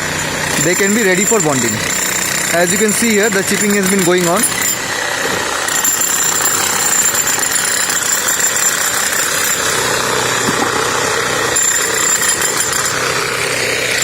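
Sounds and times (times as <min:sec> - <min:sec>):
demolition hammer chipping concrete: 0:00.0 - 0:14.0.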